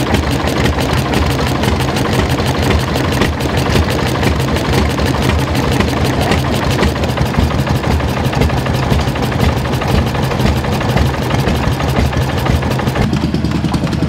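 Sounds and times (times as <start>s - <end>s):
single-cylinder engine running: 0.0s - 14.0s.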